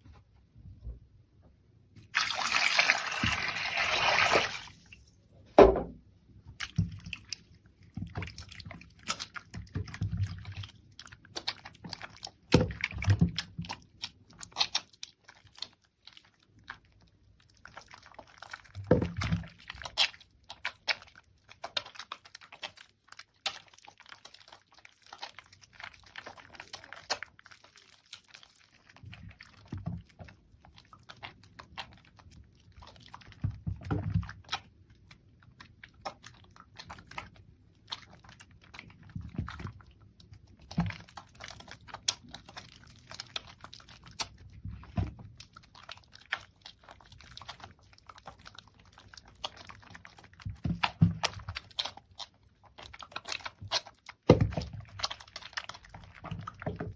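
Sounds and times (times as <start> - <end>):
hands squishing soap lather: 1.9 - 5.2, 6.2 - 56.9.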